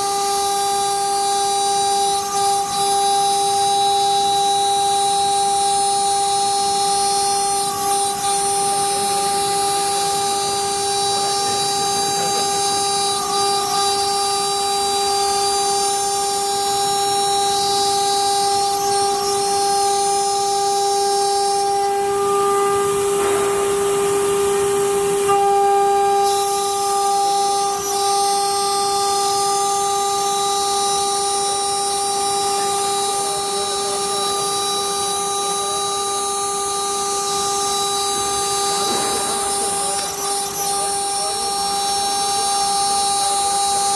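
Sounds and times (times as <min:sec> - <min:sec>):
hiss of metal cutting: 0:00.0 - 0:43.9
router spindle whining: 0:00.0 - 0:43.9.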